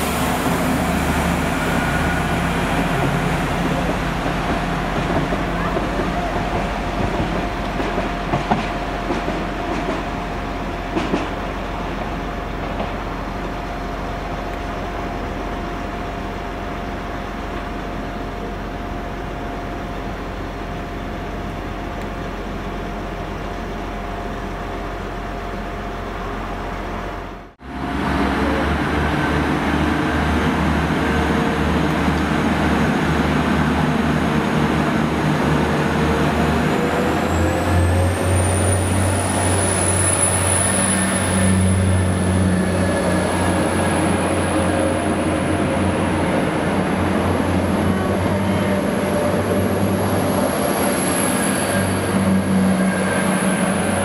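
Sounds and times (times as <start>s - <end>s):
diesel train running on tracks: 0.0s - 54.0s
idling diesel train throb: 0.0s - 54.0s.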